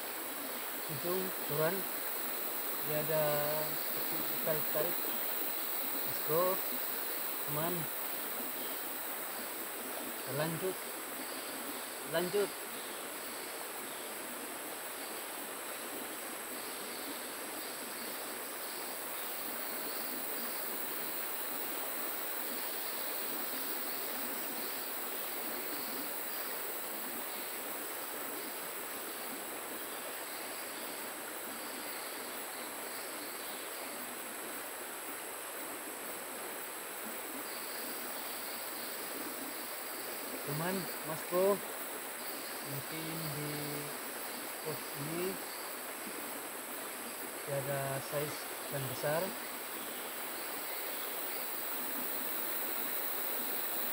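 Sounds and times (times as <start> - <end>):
flowing river water: 0.0 - 53.9
high drone of insects: 0.0 - 53.9.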